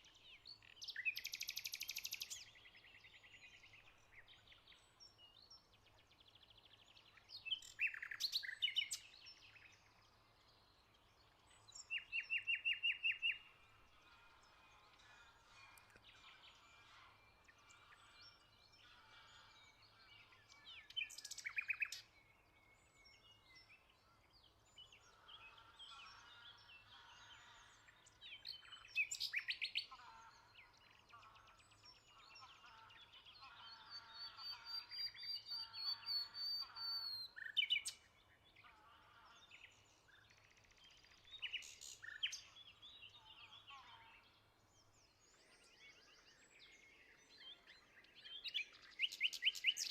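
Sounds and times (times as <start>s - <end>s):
close bird singing loudly: 0.0s - 49.9s
songbirds chirping and trilling: 0.0s - 49.9s.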